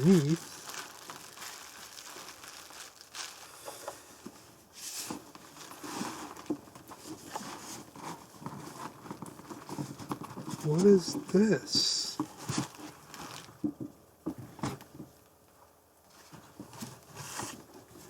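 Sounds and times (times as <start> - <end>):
packaging rustling and crinkling: 0.0 - 18.0.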